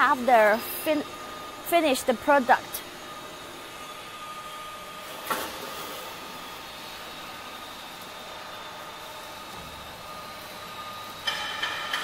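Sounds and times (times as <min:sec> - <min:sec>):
roll forming machine humming: 0:00.0 - 0:12.0.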